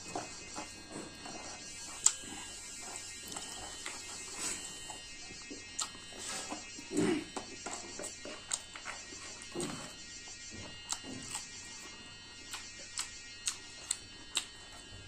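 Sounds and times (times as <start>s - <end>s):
faint electrical buzz: 0.0s - 15.0s
mouth chewing clicks and smacks: 0.1s - 9.9s, 10.9s - 14.8s.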